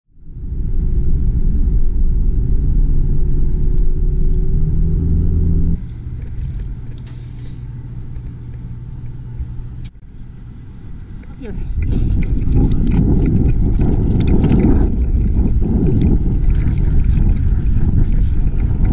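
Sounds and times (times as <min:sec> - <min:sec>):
car road and engine rumble: 0:00.1 - 0:18.9.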